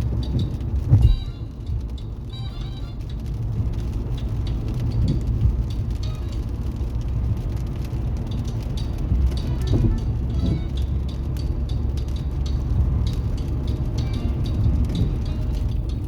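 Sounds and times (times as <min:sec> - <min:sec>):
faint light ticks: 0:00.0 - 0:16.0
tyre and engine rumble: 0:00.0 - 0:16.0.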